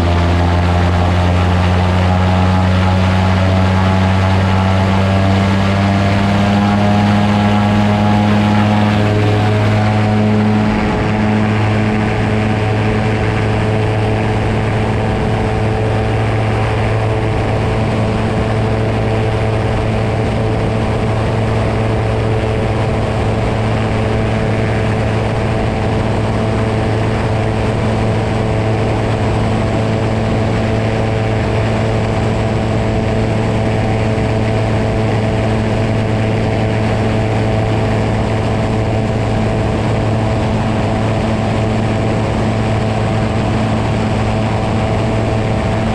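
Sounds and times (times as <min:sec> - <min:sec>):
aircraft engine and propeller drone: 0:00.0 - 0:45.9.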